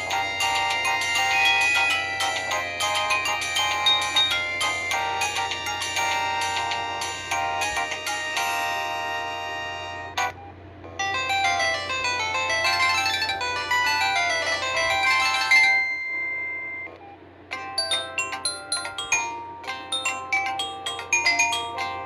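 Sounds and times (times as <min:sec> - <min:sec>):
polyphonic phone ringtone: 0:00.0 - 0:22.0.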